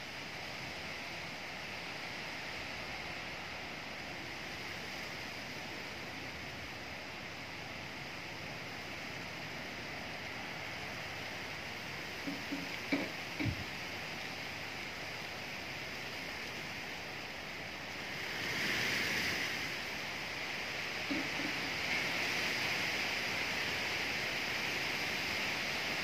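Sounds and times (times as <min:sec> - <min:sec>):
wind rustling tree leaves: 0:00.0 - 0:26.0.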